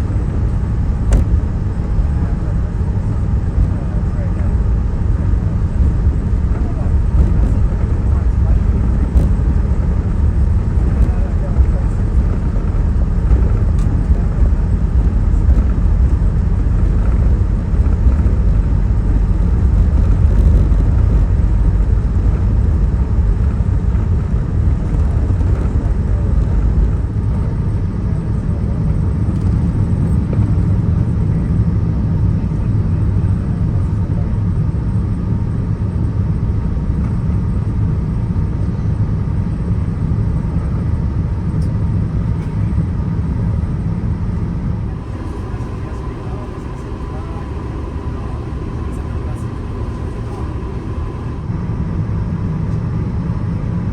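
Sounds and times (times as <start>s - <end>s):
aircraft cabin engine rumble: 0.0s - 53.9s.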